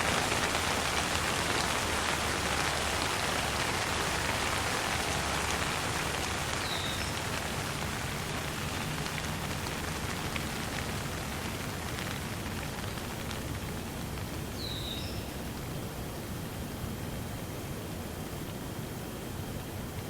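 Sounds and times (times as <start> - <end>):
light rain pattering: 0.0 - 20.0.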